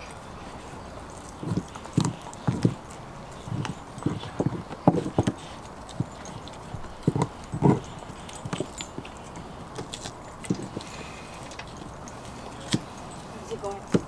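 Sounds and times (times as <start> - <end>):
dog chewing bone: 0.0 - 14.0.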